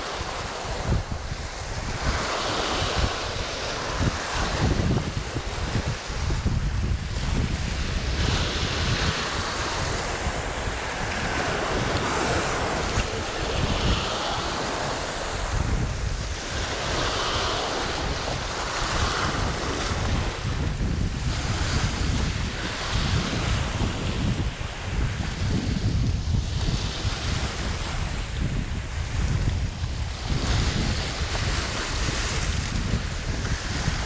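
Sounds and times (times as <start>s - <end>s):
waves breaking over rocks: 0.0s - 34.0s
wind rumbling on microphone: 0.0s - 34.0s.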